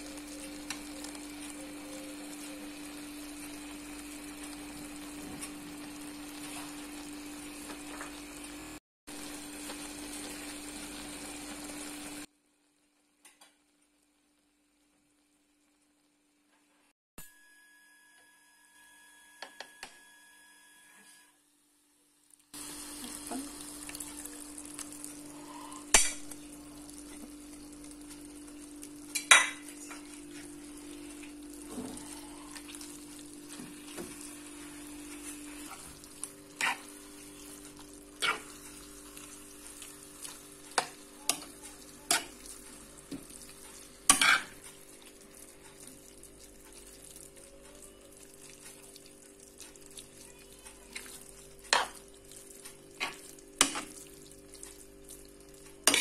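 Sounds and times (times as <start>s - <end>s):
vegetables sizzling in a pan: 0.0s - 16.9s, 21.0s - 56.0s.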